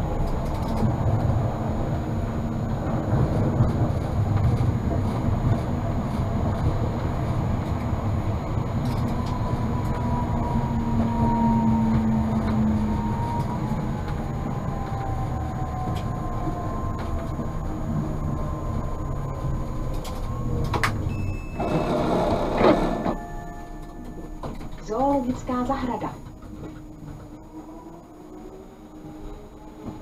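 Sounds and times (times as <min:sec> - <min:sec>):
tram motor whine: 0:00.0 - 0:30.0
tram rumble: 0:00.0 - 0:30.0.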